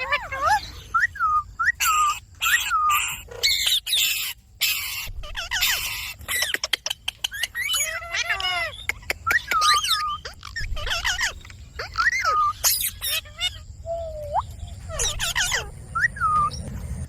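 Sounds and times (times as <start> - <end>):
parakeet screeching: 0.0 - 6.6, 7.3 - 13.7, 14.3 - 16.6
parakeet chirps and squeaks: 0.0 - 17.0.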